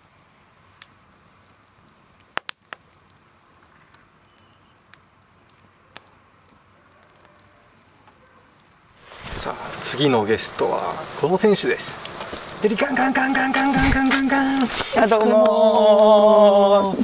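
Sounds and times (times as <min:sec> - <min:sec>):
faint steady hiss: 0:00.0 - 0:17.0
wood fire crackling and popping: 0:00.0 - 0:17.0.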